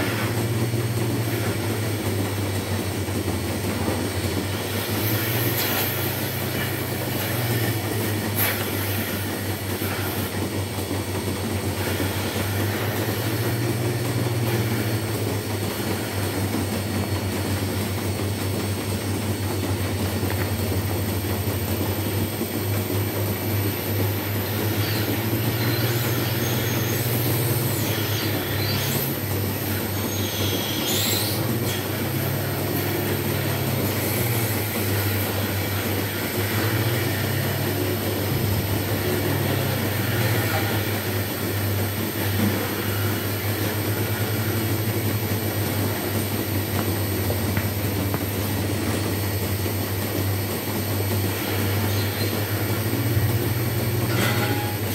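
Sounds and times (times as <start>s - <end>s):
machinery hum and rumble: 0.0s - 54.9s.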